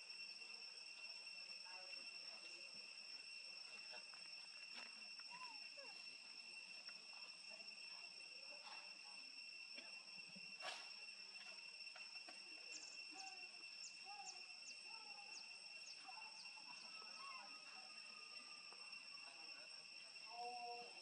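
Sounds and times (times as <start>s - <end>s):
high-pitched insect trilling: 0.0s - 21.0s.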